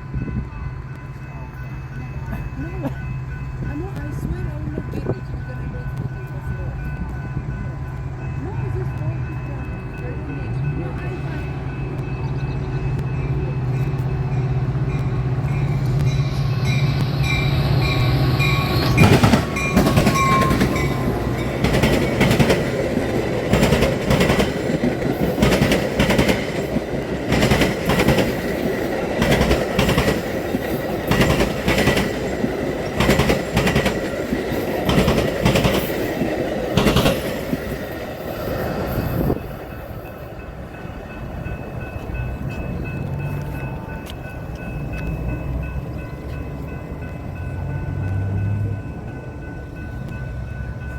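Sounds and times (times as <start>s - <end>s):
locomotive engine hum: 0.0s - 50.9s
train wheels clacking: 0.0s - 50.9s.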